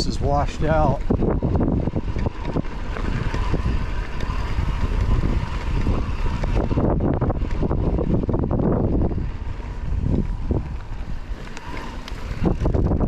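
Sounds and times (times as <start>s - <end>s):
bike knocking and rattling: 0.0s - 13.0s
wind buffeting microphone: 0.0s - 13.0s.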